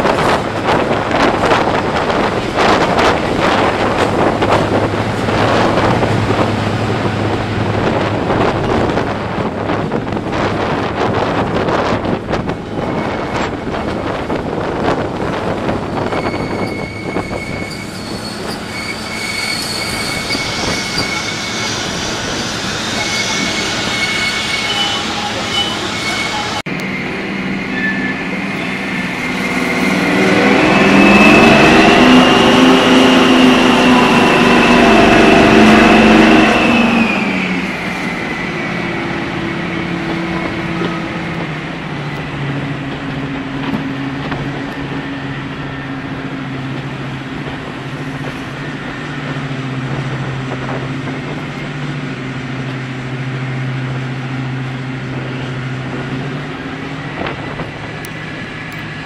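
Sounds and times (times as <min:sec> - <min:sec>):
locomotive diesel engines: 0:00.0 - 0:59.0.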